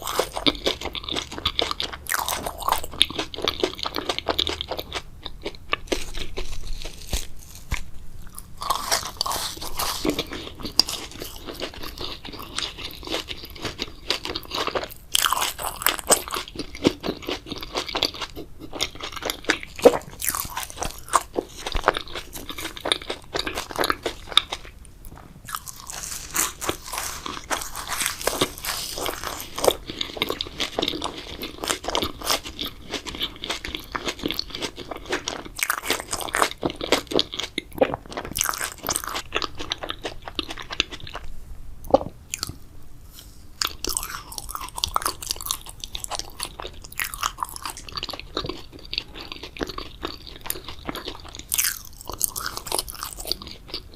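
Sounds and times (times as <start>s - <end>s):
person chewing jelly: 0.0s - 42.7s, 43.5s - 53.9s.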